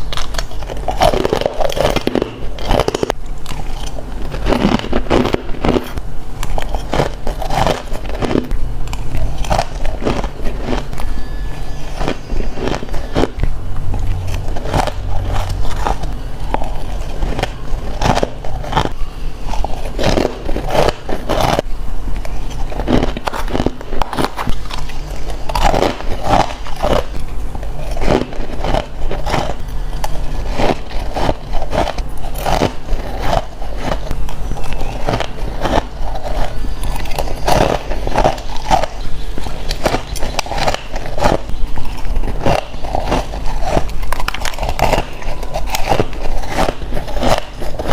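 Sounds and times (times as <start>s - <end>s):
ice crunching: 0.0s - 47.9s
low hum: 0.0s - 47.9s.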